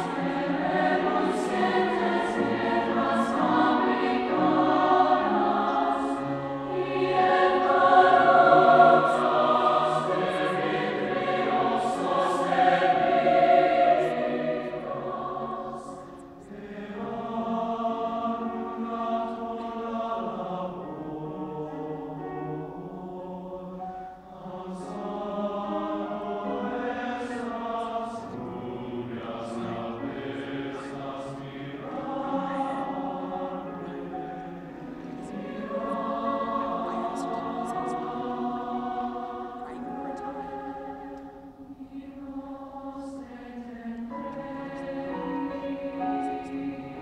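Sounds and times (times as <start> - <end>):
mixed choir singing: 0.0 - 47.0.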